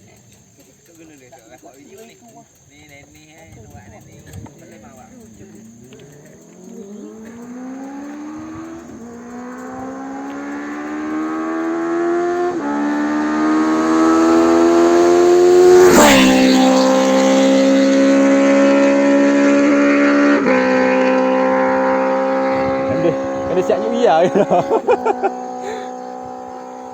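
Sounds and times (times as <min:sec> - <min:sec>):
motorcycle engine accelerating: 0:03.1 - 0:26.9.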